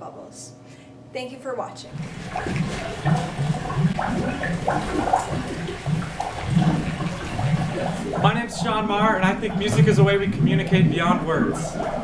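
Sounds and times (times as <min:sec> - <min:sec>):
water bubbling: 0:01.9 - 0:12.0.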